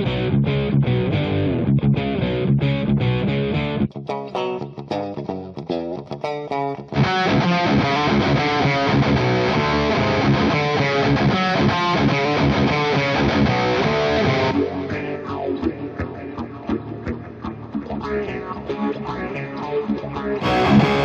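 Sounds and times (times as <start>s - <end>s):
electric guitar playing: 0.0s - 21.0s.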